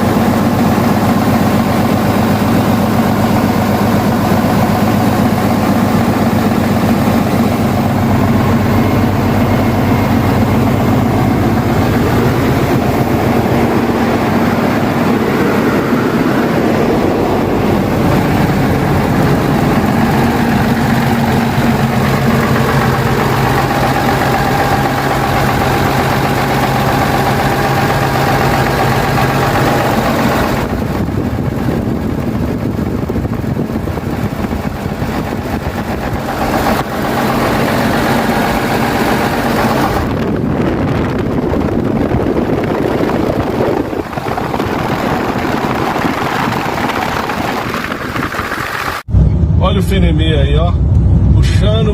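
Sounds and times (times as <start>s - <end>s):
truck diesel engine running: 0.0s - 49.6s.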